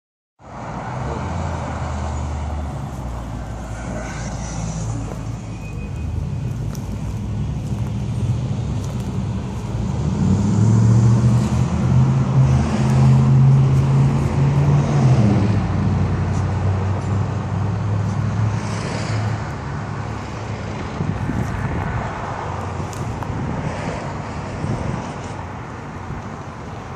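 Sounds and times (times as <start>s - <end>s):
vehicles driving past: 0.4s - 26.9s.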